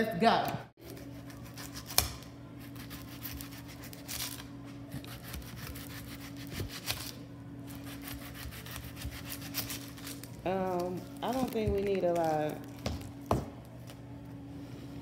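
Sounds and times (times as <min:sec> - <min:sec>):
steady low hum: 0:00.3 - 0:15.0
knife slicing onion: 0:00.8 - 0:13.5.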